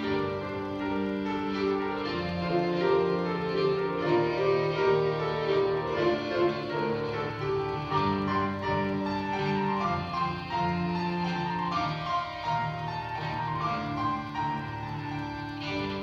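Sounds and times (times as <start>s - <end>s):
piano accompaniment: 0.0s - 16.0s
violin bowing long notes: 0.0s - 16.0s.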